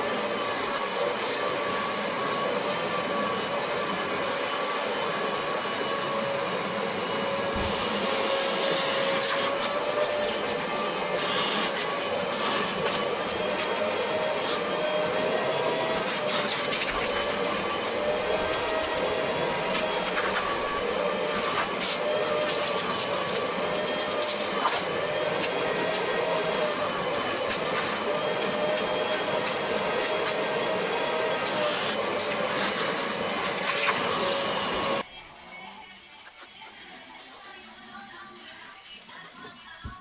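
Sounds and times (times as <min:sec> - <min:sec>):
vacuum cleaner motor running: 0:00.0 - 0:35.1.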